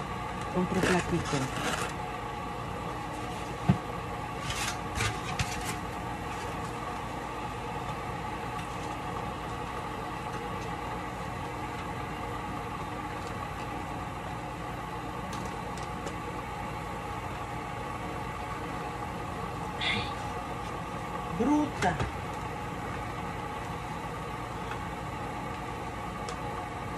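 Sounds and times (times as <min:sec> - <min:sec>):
motor or fan humming: 0:00.0 - 0:26.9.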